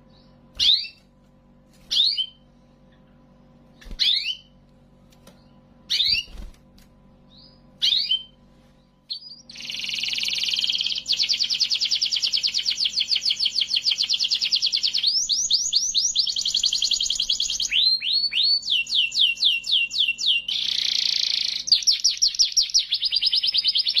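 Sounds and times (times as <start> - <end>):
canary chirping and trilling: 0.0 - 1.1, 1.8 - 3.1, 3.8 - 4.6, 5.3 - 6.6, 7.2 - 24.0.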